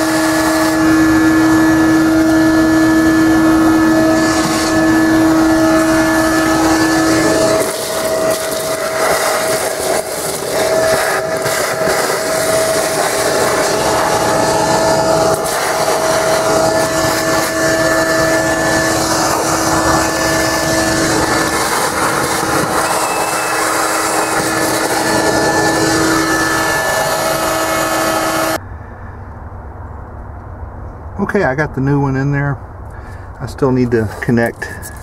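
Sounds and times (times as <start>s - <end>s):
hose sucking debris: 0.0s - 28.6s
shop vac whining: 0.0s - 28.6s, 33.0s - 35.0s.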